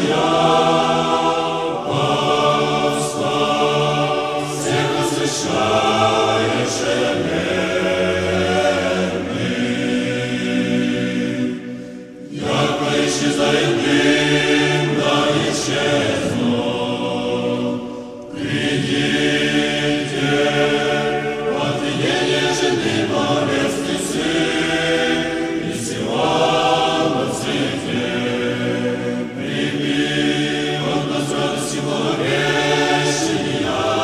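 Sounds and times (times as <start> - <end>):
choir singing a hymn a cappella: 0.0 - 34.0.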